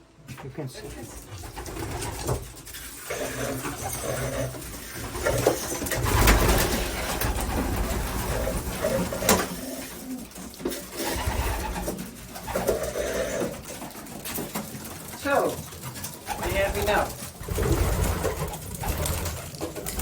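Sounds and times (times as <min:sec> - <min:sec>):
pigeons cooing: 0:00.9 - 0:20.0.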